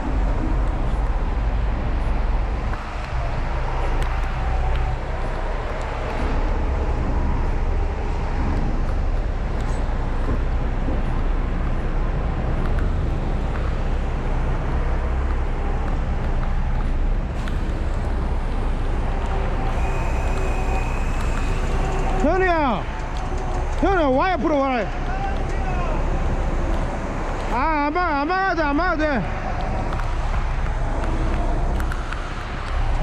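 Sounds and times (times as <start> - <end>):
heavy diesel truck engine: 0.0 - 33.0
road and traffic noise: 0.0 - 33.0.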